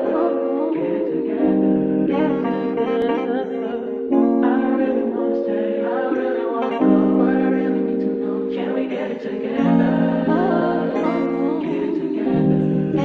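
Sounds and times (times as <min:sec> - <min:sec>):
song with singing and guitar: 0:00.0 - 0:13.0.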